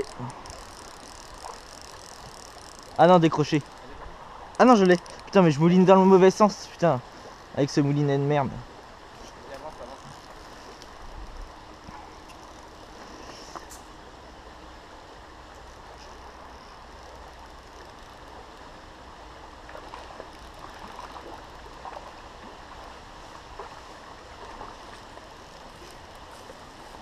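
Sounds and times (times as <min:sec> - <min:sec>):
stream running over riffle: 0:00.0 - 0:27.0.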